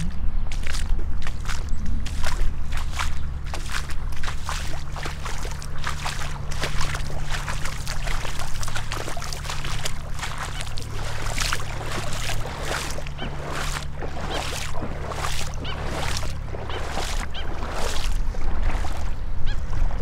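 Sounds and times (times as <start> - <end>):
boots splashing through water: 0.0 - 20.0
steady low rumble: 0.0 - 20.0.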